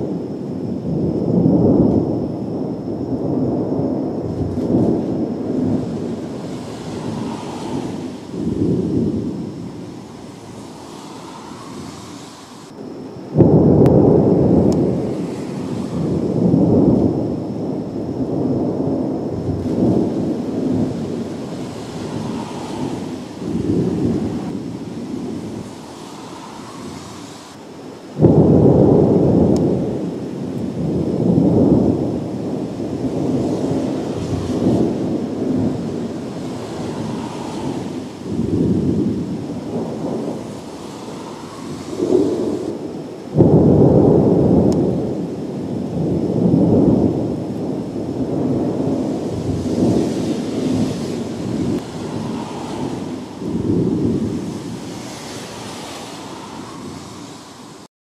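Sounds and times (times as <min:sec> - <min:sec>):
rolling thunder rumble: 0:00.0 - 0:57.9
thunder claps: 0:00.0 - 0:57.9.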